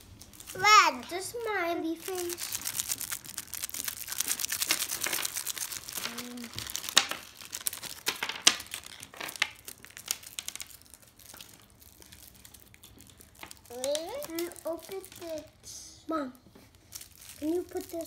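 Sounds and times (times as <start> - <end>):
plastic packaging crinkling: 0.0 - 15.6, 16.6 - 18.0.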